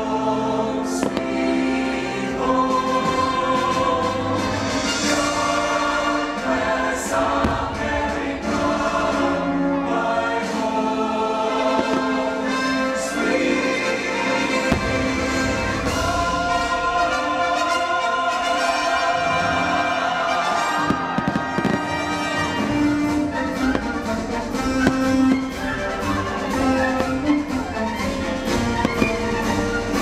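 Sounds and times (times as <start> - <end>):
choir singing over orchestra: 0.0 - 30.0.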